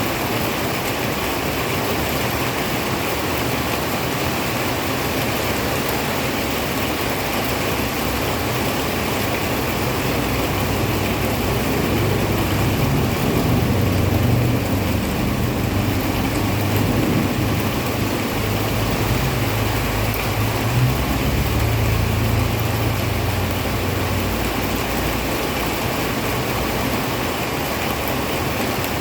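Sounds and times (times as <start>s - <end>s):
heavy rain hissing: 0.0s - 29.0s.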